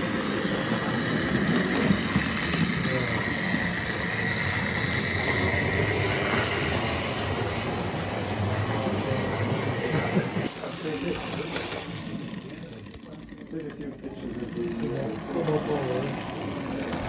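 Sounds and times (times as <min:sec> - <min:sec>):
model train motor whine: 0:00.0 - 0:17.0
people talking: 0:00.0 - 0:17.0
wheels rumbling on track: 0:00.0 - 0:17.0.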